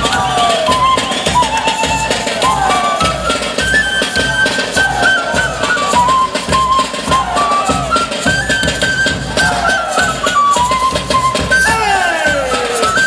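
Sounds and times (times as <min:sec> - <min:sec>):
flute melody: 0:00.0 - 0:13.0
steady drum beat: 0:00.0 - 0:13.0.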